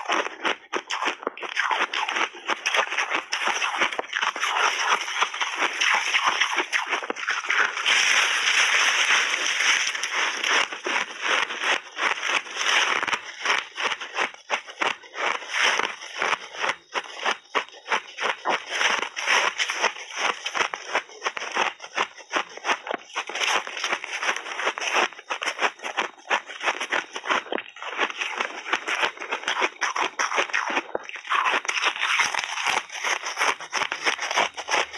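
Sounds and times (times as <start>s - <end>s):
crunching shaved ice: 0.0s - 34.9s.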